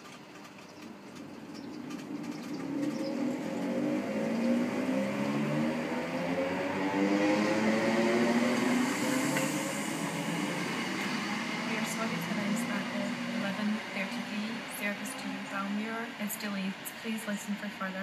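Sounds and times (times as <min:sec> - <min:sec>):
train traction motors whining: 0:00.0 - 0:18.0.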